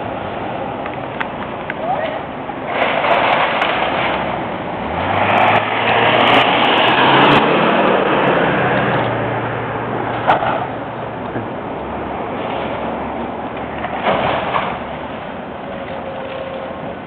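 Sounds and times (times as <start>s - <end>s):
broad rushing noise: 0.0s - 17.0s.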